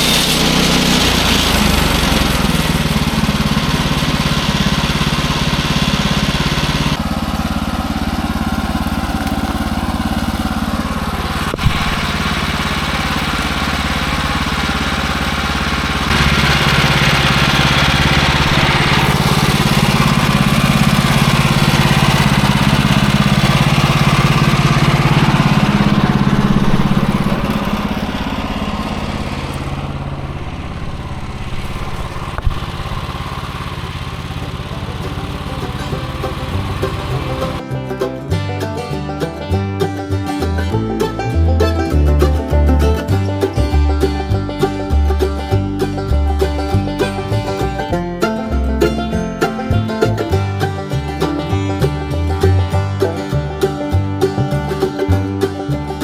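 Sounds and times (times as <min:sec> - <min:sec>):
small gasoline engine running: 0:00.0 - 0:37.8, 0:40.0 - 0:56.0.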